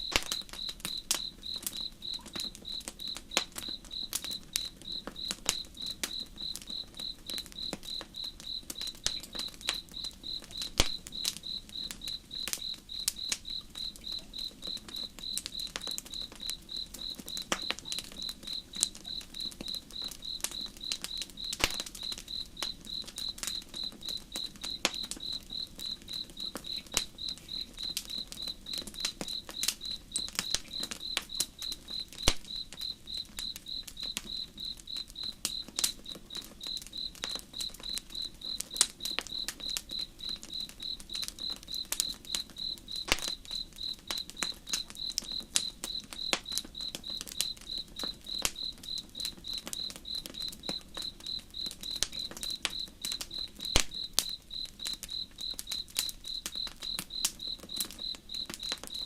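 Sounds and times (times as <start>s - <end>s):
campfire crackling and popping: 0.0s - 59.0s
cricket chirping: 0.0s - 59.0s.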